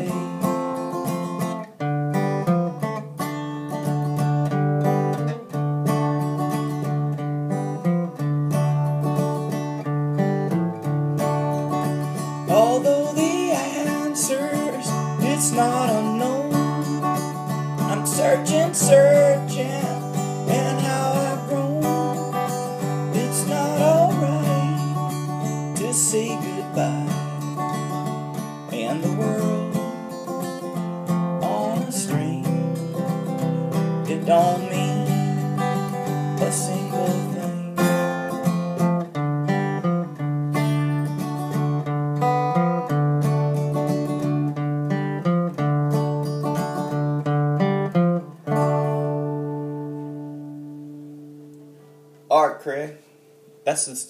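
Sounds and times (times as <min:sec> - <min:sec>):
acoustic guitar strumming and picking: 0:00.0 - 0:54.0.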